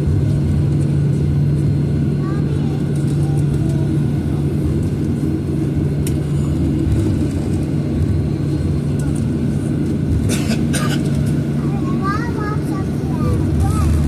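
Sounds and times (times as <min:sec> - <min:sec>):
aircraft engines hum and rumble: 0:00.0 - 0:14.0.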